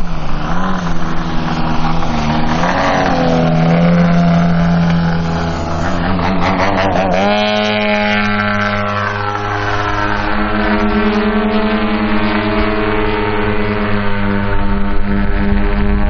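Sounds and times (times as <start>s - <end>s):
model plane propeller engines: 0.0s - 16.0s.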